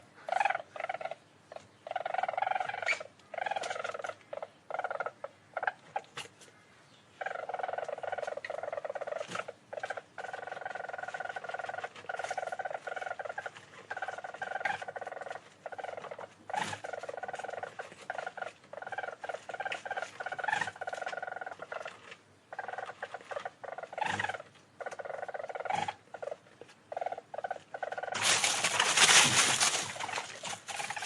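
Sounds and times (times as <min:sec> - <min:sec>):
small animal chattering: 0:00.0 - 0:06.4, 0:07.2 - 0:31.0.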